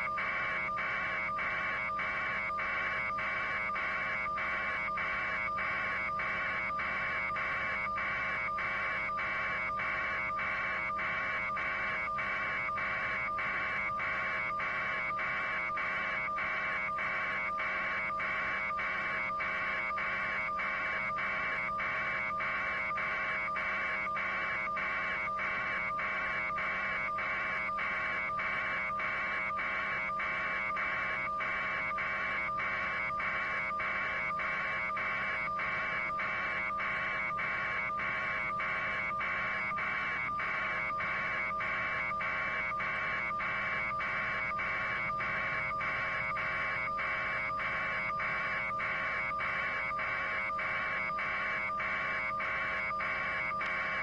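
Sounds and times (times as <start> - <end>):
constant low hum: 0.0 - 54.0.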